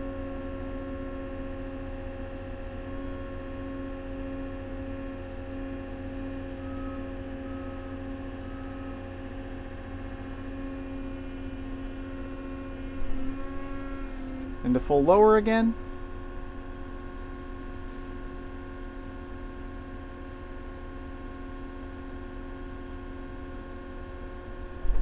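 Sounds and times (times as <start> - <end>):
diesel engine droning: 0.0 - 24.9.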